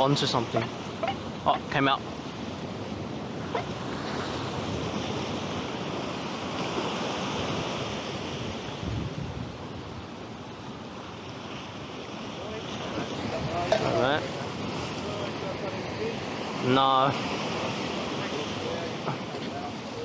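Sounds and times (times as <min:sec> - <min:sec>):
surf against rocky shoreline: 0:00.0 - 0:20.0
wind on microphone: 0:00.0 - 0:20.0.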